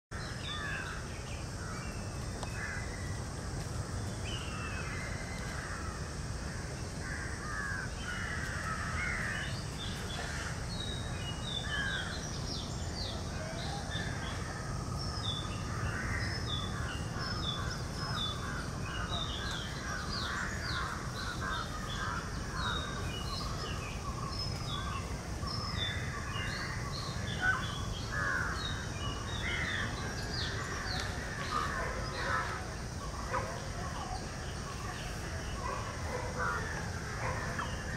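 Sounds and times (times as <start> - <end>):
birds calling: 0.1 - 37.9.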